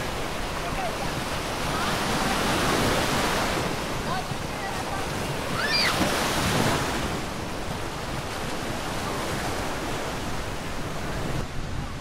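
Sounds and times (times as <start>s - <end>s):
ocean waves breaking on shore: 0.0s - 12.0s
wind buffeting microphone: 0.0s - 12.0s.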